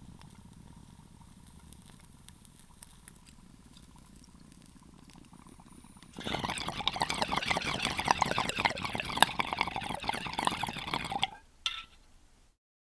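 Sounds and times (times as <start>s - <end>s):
bong water bubbling: 0.0s - 11.4s.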